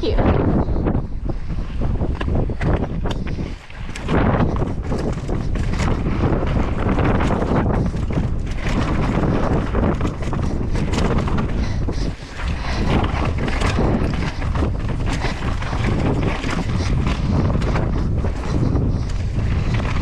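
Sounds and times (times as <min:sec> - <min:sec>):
wind buffeting microphone: 0:00.0 - 0:20.0
bike rattling on rocky ground: 0:00.2 - 0:20.0.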